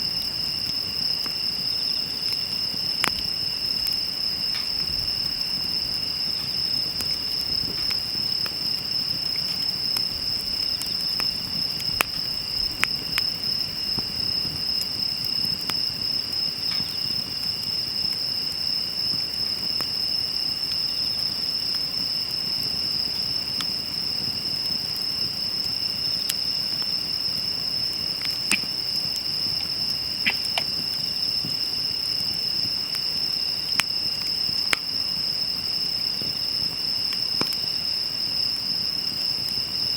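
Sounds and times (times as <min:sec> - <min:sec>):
insects trilling: 0:00.0 - 0:39.9
wood fire crackling and popping: 0:00.0 - 0:39.9.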